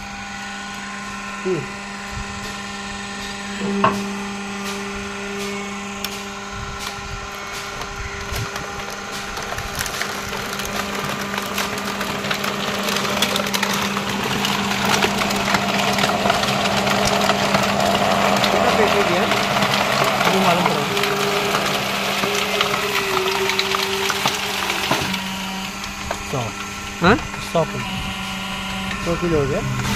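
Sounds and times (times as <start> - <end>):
hydraulic power pack humming: 0.0 - 29.9
plastic bottles crackling and crunching: 3.5 - 29.9.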